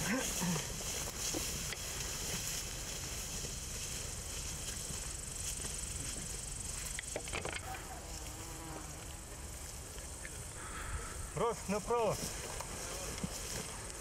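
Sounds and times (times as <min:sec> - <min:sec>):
dry grass rustling: 0:00.0 - 0:14.0.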